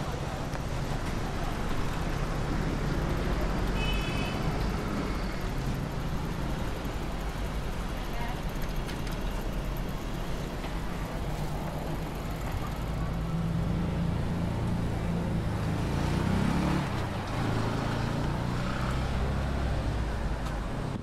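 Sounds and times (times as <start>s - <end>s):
road traffic: 0.0s - 21.0s
vehicle engine humming: 0.0s - 21.0s.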